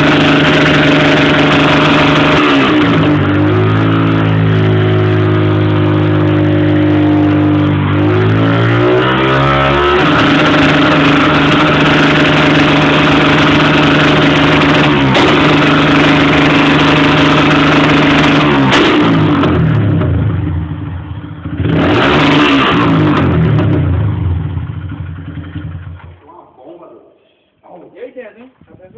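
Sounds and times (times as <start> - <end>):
motorcycle engine revving: 0.0 - 26.4.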